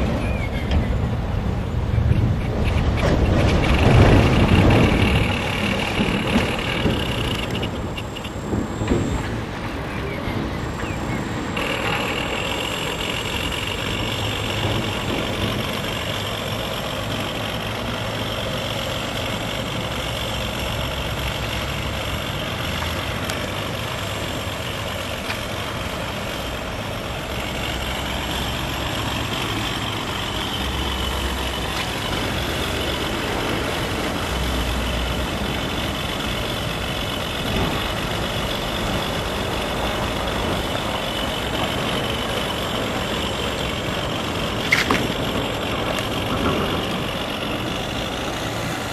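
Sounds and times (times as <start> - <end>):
road traffic: 0.0 - 48.9
simulated engine through loudspeaker: 0.0 - 48.9.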